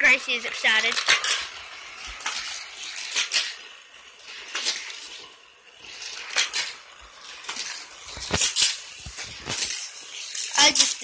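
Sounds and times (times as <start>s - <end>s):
plastic toy track clacking: 0.0s - 11.0s.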